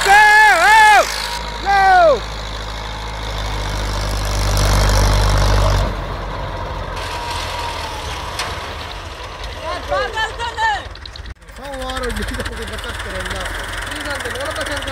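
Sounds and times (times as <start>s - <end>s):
tractor diesel engine revving: 0.0s - 14.9s.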